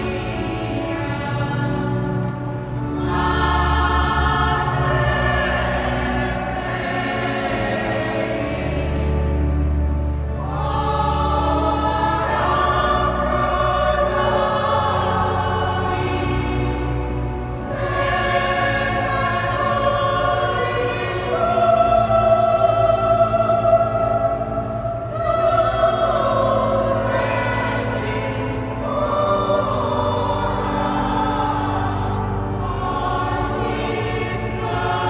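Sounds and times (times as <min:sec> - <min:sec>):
mixed choir singing: 0:00.0 - 0:35.0.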